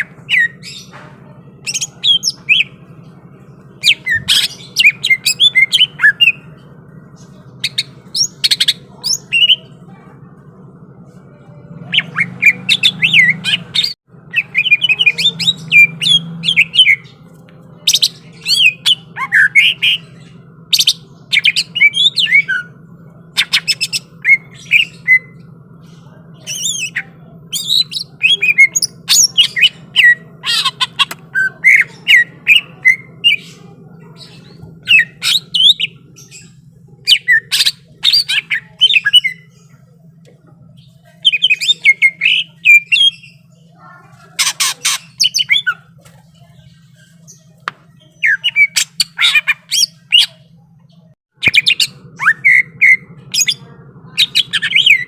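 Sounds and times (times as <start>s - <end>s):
bird singing chirps and squawks: 0.0s - 9.9s, 11.3s - 55.0s
steady low hum: 0.0s - 55.0s.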